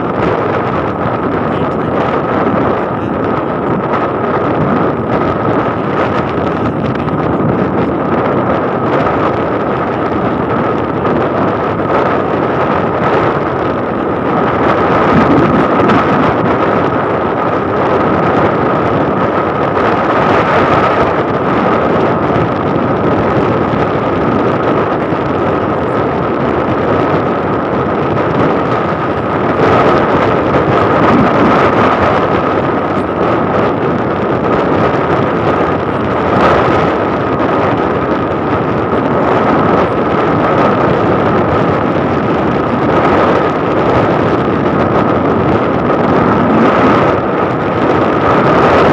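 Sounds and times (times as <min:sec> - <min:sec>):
motorcycle engine and road noise: 0:00.0 - 0:48.9
steady high whine: 0:00.0 - 0:48.9
wind rushing over microphone: 0:00.0 - 0:48.9.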